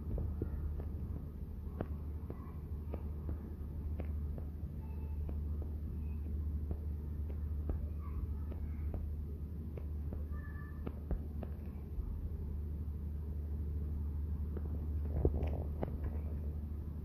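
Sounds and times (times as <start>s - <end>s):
faint clicks and ticks: 0.0s - 12.4s, 14.4s - 16.7s
low steady hum: 0.0s - 17.0s.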